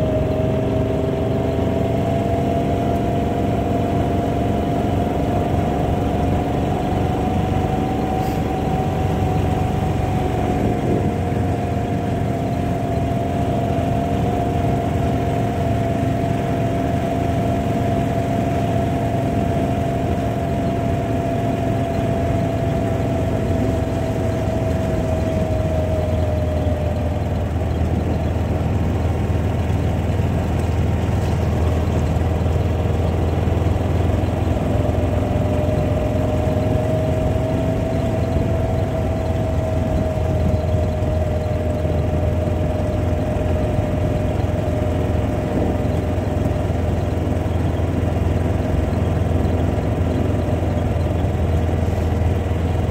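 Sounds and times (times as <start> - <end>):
low engine rumble: 0.0 - 52.9
thin whine: 1.9 - 52.9.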